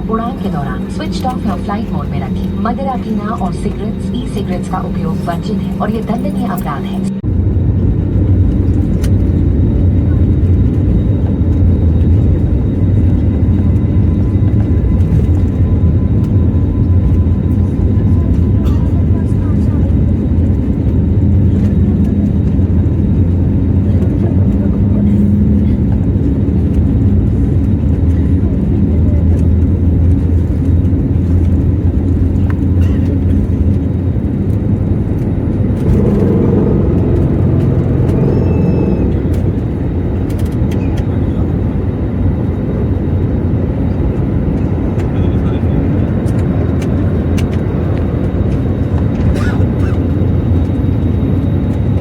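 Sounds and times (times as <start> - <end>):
jet engine rumble in cabin: 0.0 - 52.0.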